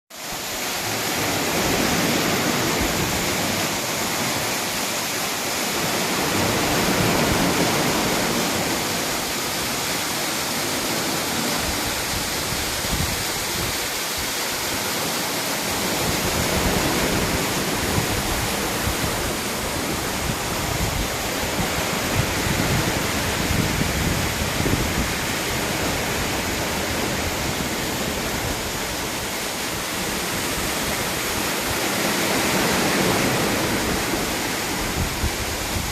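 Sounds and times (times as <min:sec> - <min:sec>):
running water rushing: 0:00.1 - 0:35.9.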